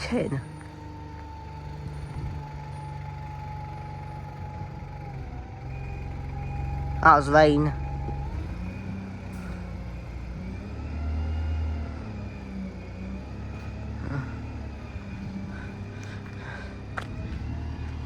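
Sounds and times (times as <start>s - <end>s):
diesel bus engine running: 0.0s - 18.0s.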